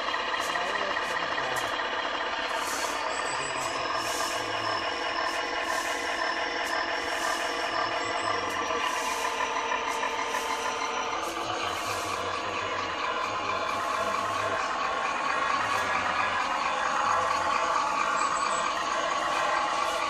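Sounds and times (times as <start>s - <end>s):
diesel engine sound from speaker: 0.0s - 20.0s.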